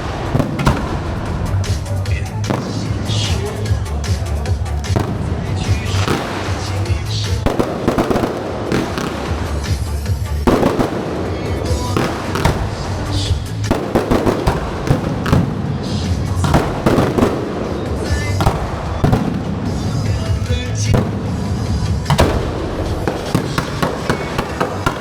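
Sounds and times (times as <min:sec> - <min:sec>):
fireworks crackling bangs: 0:00.0 - 0:25.0
music playing: 0:00.0 - 0:25.0.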